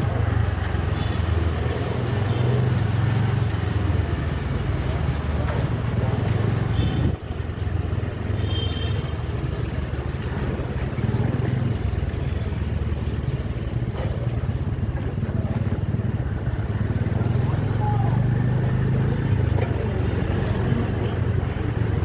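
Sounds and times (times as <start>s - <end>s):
road vehicle rumble: 0.0s - 22.0s.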